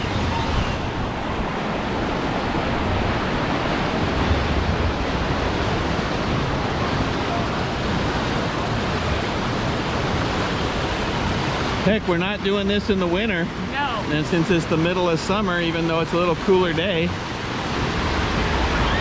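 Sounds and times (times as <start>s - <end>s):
whitewater rushing through channel: 0.0s - 19.0s.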